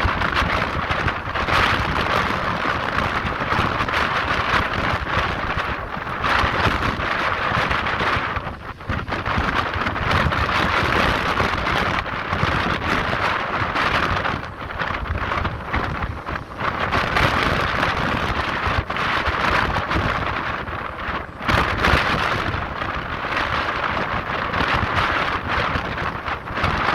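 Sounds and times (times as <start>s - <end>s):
wind rumbling: 0.0s - 26.9s.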